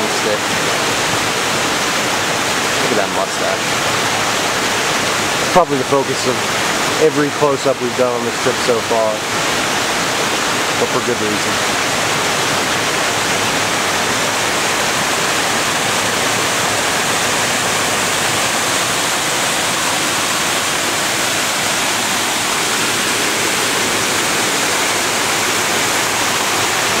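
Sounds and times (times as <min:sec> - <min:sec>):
waterfall rushing over rock: 0:00.0 - 0:27.0.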